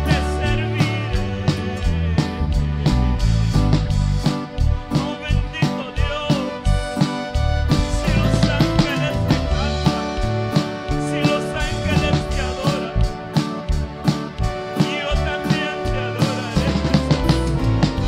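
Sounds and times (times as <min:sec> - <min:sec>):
drum kit beat: 0:00.0 - 0:18.0
live band playing: 0:00.0 - 0:18.0.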